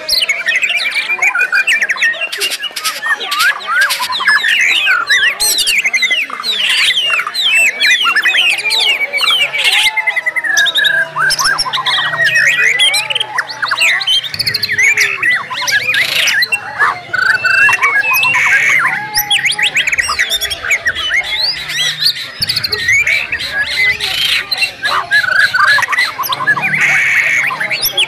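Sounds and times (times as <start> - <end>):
songbirds singing: 0.0 - 28.0.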